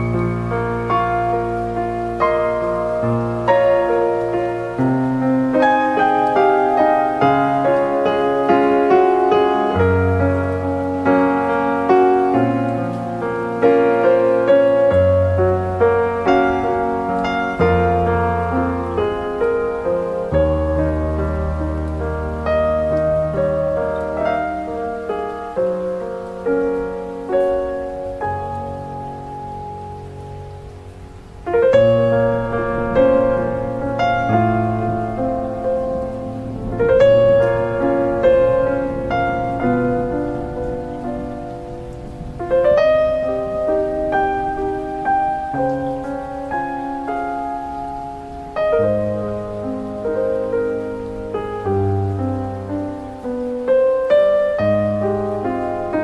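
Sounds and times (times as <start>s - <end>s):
soft piano melody: 0.0s - 56.0s.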